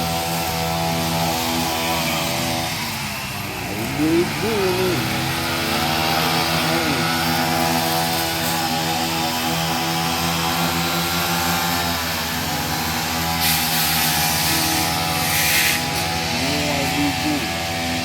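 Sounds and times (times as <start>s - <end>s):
brush cutter engine running: 0.0s - 18.0s
hissy rushes: 2.0s - 17.5s.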